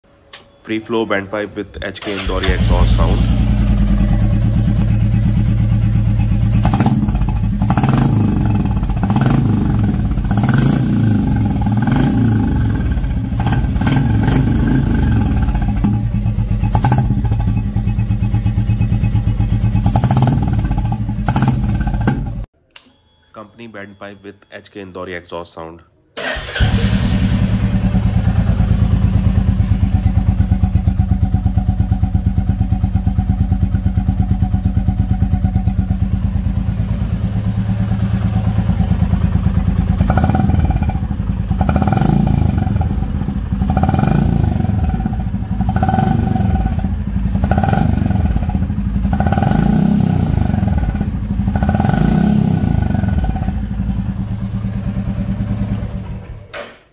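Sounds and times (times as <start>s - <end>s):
motorcycle engine starting and idling: 1.7s - 22.6s, 26.2s - 56.9s
motorcycle throttle blips: 2.1s - 23.0s, 27.7s - 56.8s.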